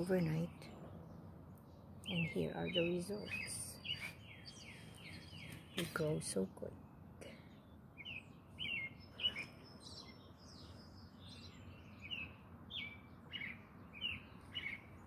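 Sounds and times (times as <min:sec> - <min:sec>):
bird chirping: 0:00.0 - 0:15.0
faint background noise: 0:00.0 - 0:15.0.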